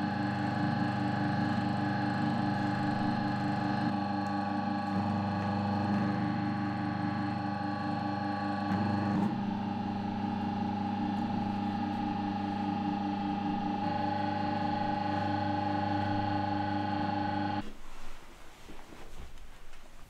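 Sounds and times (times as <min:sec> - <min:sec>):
extruder motor humming: 0:00.0 - 0:17.8.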